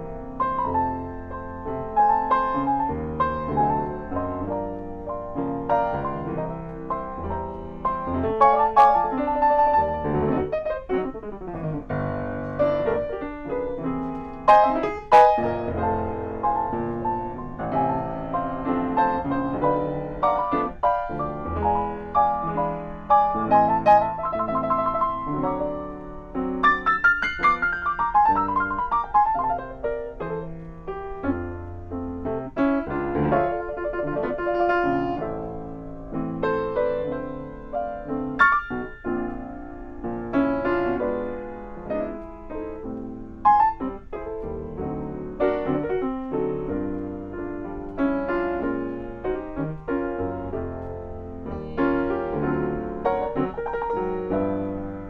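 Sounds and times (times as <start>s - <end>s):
grand piano playing solo: 0.0s - 55.0s.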